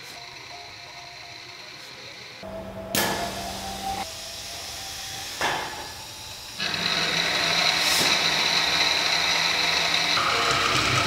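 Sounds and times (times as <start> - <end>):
milling machine spindle whining: 0.0 - 11.0.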